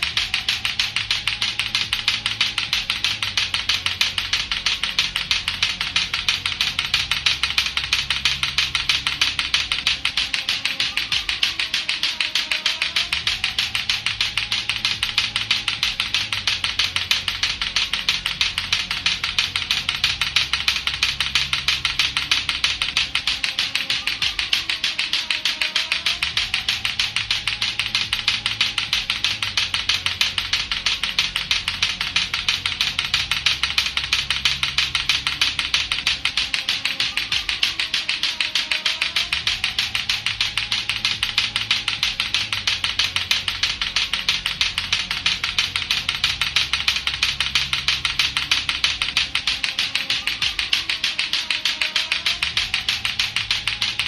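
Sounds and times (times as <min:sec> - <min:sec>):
faint music with low notes: 0:00.0 - 0:54.0
plastic balls clacking: 0:00.0 - 0:54.0.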